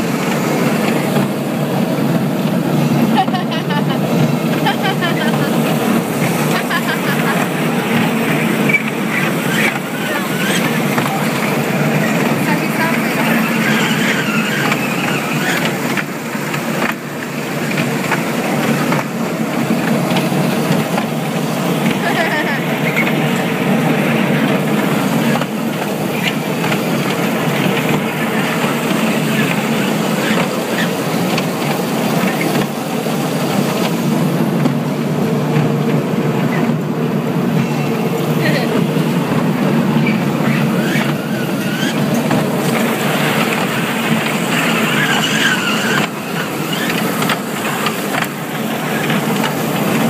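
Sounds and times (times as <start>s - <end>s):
ride-on train rolling: 0.0s - 50.0s.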